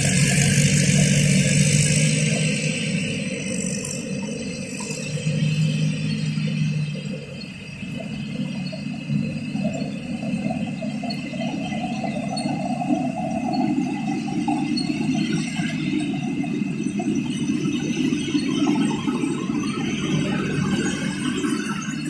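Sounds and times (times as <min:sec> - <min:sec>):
combine harvester running: 0:00.0 - 0:22.0
machinery rattling: 0:00.0 - 0:22.0.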